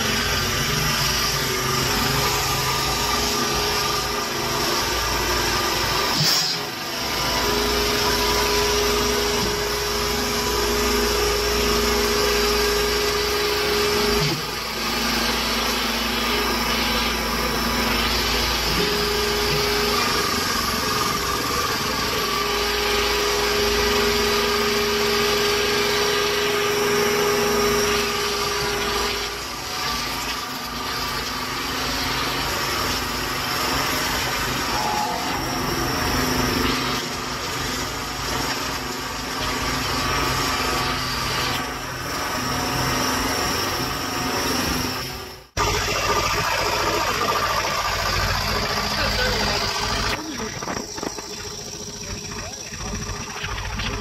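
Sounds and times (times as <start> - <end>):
engine and hydraulic pump drone: 0.0 - 54.0
hydraulic whine: 0.0 - 54.0.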